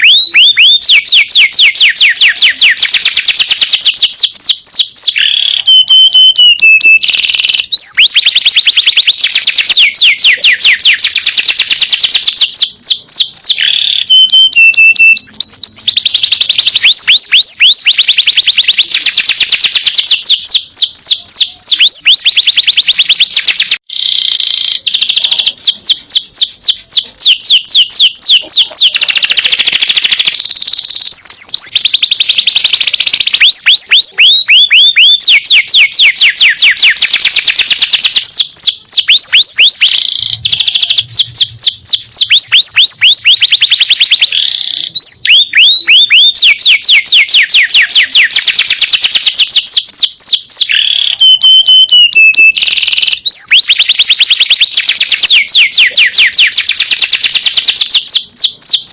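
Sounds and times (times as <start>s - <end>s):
canary singing trills: 0.0s - 58.9s
canary whistle: 0.0s - 58.9s.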